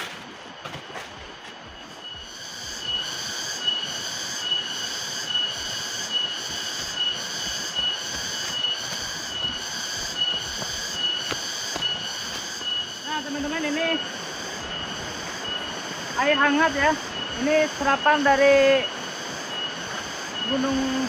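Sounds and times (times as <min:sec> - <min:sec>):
cicadas chorus: 0:00.0 - 0:21.0.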